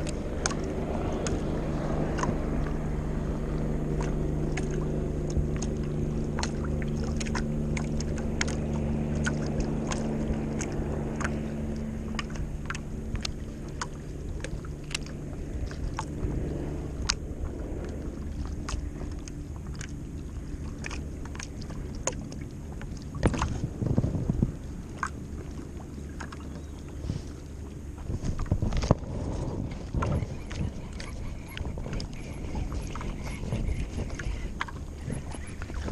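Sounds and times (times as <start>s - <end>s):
small waves lapping against board: 0.0s - 35.9s
steady low hum: 0.0s - 35.9s.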